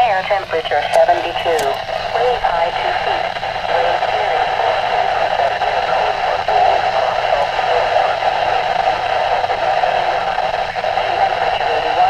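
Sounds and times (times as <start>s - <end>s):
faint garbled voice: 0.0s - 12.0s
radio static hiss: 0.0s - 12.0s.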